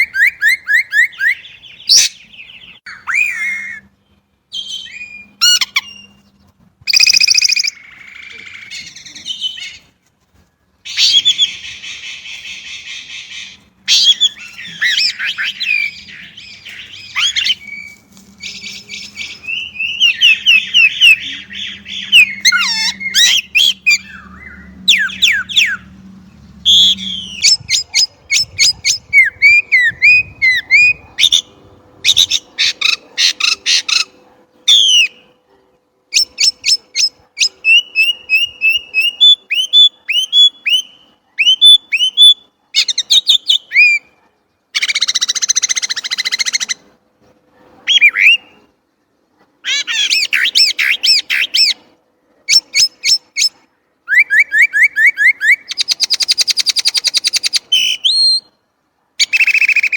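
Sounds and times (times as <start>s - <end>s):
blackbird singing: 0.0s - 9.9s, 10.9s - 35.4s, 36.1s - 44.2s, 47.9s - 48.7s, 49.6s - 51.8s, 52.5s - 58.6s, 59.2s - 59.9s.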